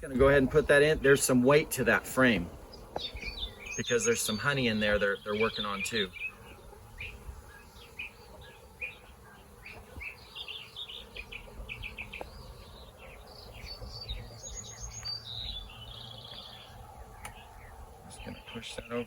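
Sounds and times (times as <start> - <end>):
honeybees humming: 0.0 - 19.0
small birds chirping: 0.0 - 19.0.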